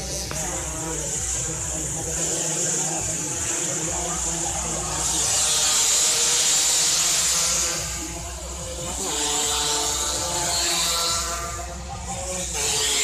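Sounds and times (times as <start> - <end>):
racing motorcycles revving: 0.0 - 13.0.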